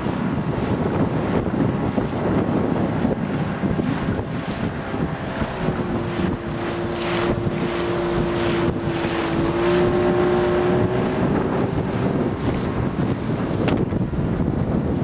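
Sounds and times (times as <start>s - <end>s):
outboard motor running: 0.0s - 15.0s
wind buffeting microphone: 0.0s - 15.0s.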